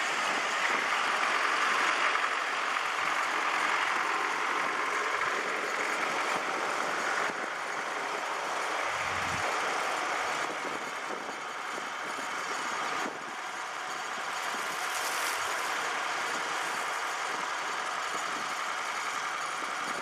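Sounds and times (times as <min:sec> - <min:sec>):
steady wash of noise: 0:00.0 - 0:19.2
tractor diesel engine idling: 0:00.0 - 0:20.0.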